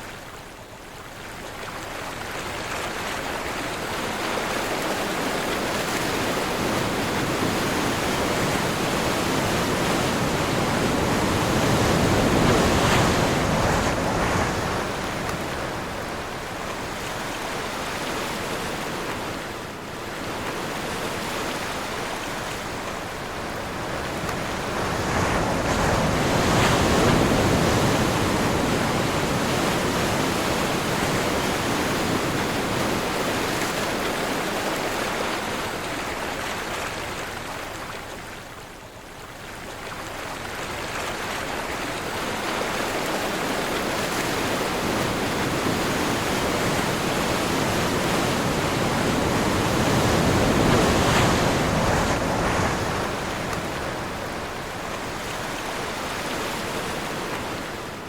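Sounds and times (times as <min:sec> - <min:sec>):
wind: 0:00.0 - 0:58.0
ocean waves rushing: 0:03.4 - 0:37.9, 0:40.8 - 0:58.0.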